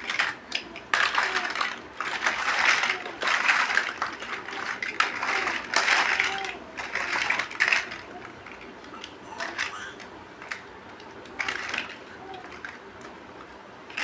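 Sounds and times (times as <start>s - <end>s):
plastic bricks clicking and rattling: 0.0s - 13.2s.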